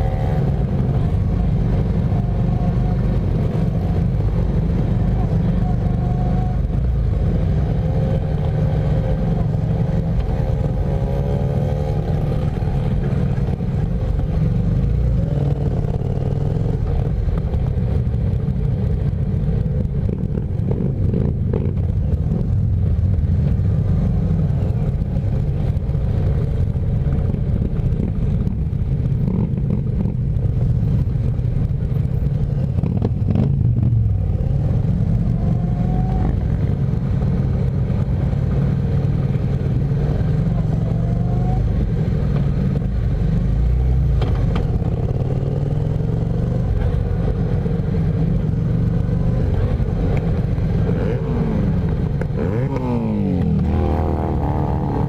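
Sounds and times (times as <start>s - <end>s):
motorcycle engine running: 0.0s - 55.0s
other motorcycle engines: 0.0s - 55.0s.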